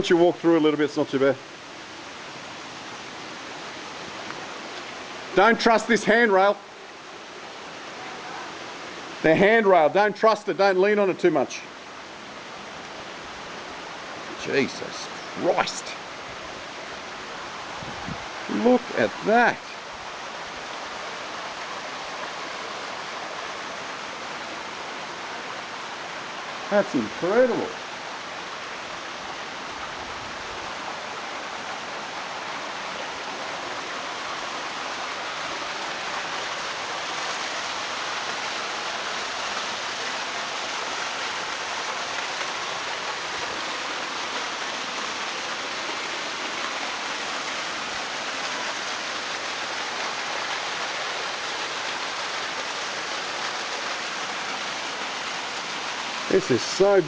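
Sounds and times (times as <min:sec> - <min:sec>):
water running in a creek: 0:00.0 - 0:57.0.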